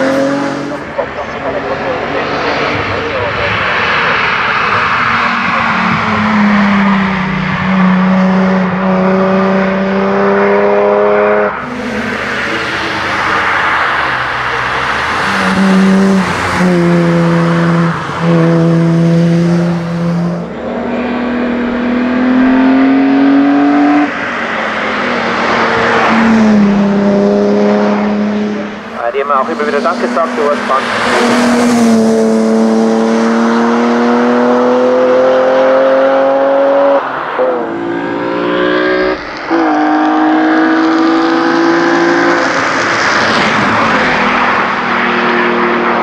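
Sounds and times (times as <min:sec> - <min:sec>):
race car engine running hard: 0:00.0 - 0:46.0.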